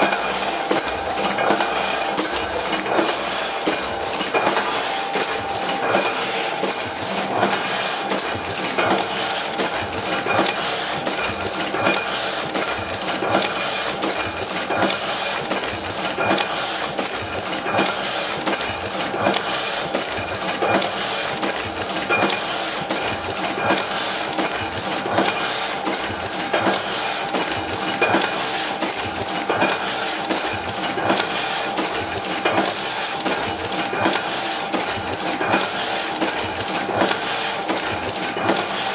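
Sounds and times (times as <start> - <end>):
constant machine hum: 0.0 - 38.9
printing press clattering: 0.0 - 38.9.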